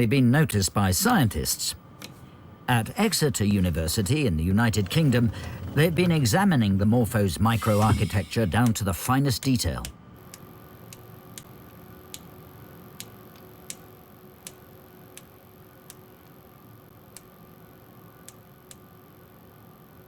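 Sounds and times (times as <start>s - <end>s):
equipment hum with high whine: 0.0s - 20.0s.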